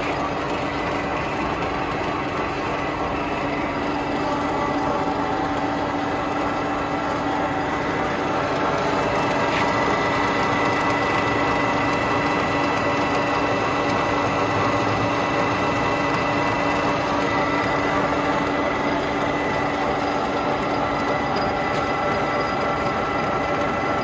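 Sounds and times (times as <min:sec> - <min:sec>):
constant machine whine: 0:00.0 - 0:24.0
machine humming: 0:00.0 - 0:24.0.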